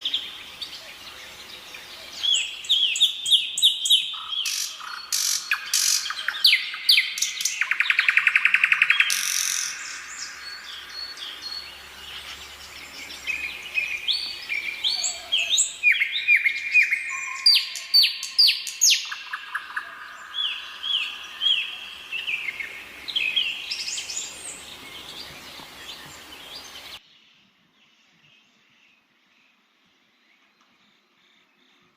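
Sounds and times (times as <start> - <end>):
birds singing and chirping: 0.0 - 27.0.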